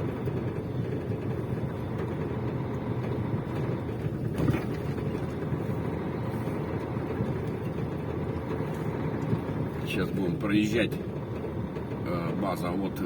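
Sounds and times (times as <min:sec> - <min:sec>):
engine and road rumble in cab: 0:00.0 - 0:13.0.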